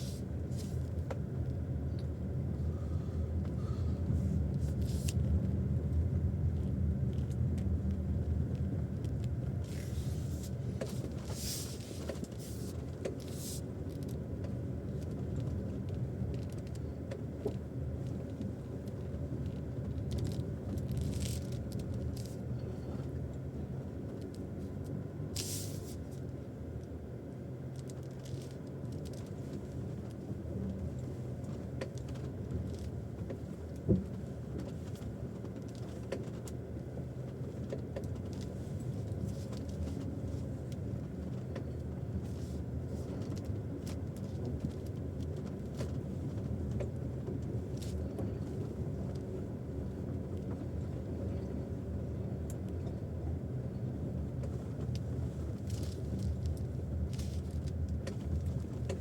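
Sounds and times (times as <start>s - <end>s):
road rumble in car cabin: 0.0s - 59.0s
clicks and knocks under steering wheel: 4.4s - 25.0s, 27.7s - 59.0s.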